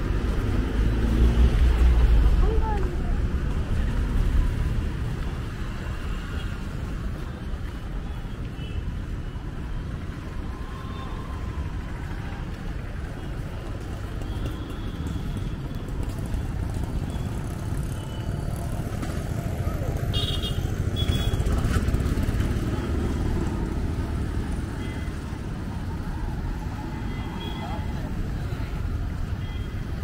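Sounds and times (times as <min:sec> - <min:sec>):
motorbikes passing: 0:00.0 - 0:08.0, 0:09.5 - 0:30.0
street traffic rumble: 0:00.0 - 0:30.0.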